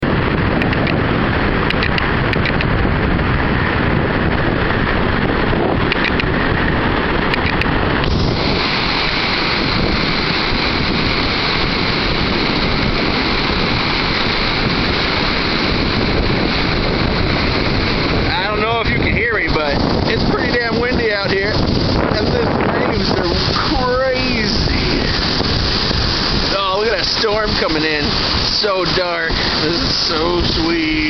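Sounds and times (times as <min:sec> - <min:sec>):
waves breaking on shore: 0:00.0 - 0:31.0
wind buffeting microphone: 0:00.0 - 0:31.0.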